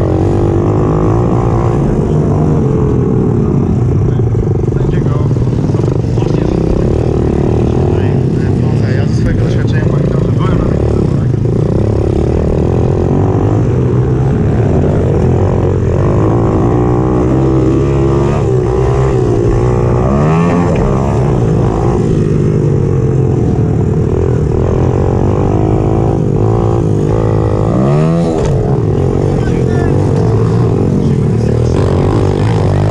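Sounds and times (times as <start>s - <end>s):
small motorcycle engine revving: 0.0s - 32.9s.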